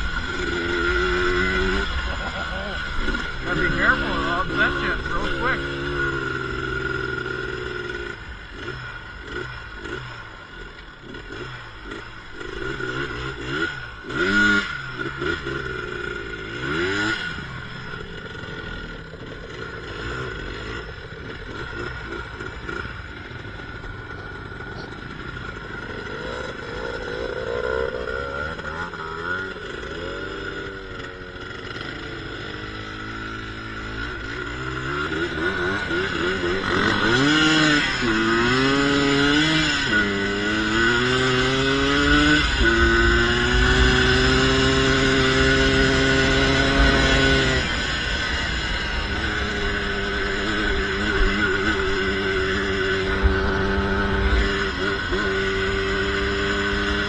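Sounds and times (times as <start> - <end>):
atv engines revving: 0.0 - 57.0.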